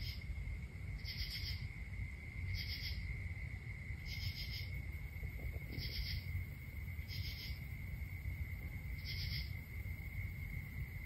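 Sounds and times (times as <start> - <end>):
cricket trill: 0.0 - 11.0
raspy high insect call: 0.0 - 11.0.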